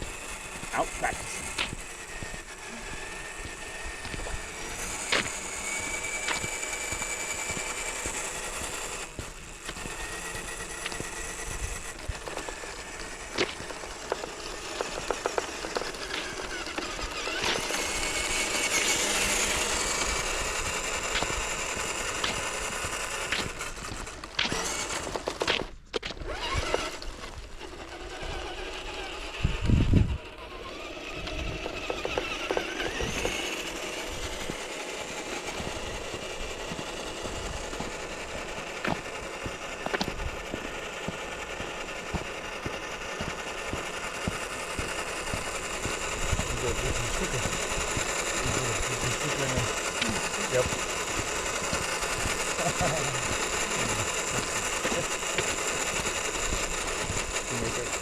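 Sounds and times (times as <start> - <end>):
drivetrain ticks and clicks: 0.0 - 58.0
electric motor and gears whining: 0.0 - 58.0.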